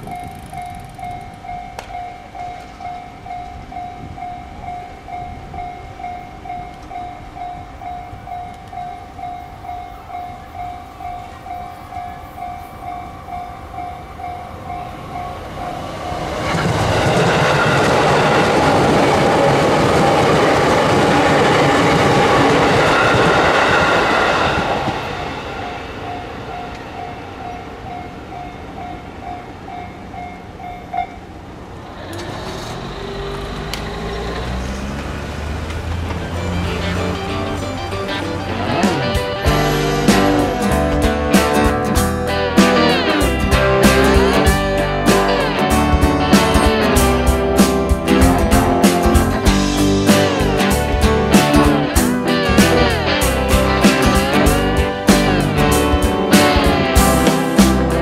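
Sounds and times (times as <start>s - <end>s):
level-crossing warning bell ringing: 0.0s - 31.7s, 36.2s - 56.2s
electric train passing: 0.0s - 58.0s
train wheels on rails: 0.0s - 58.0s.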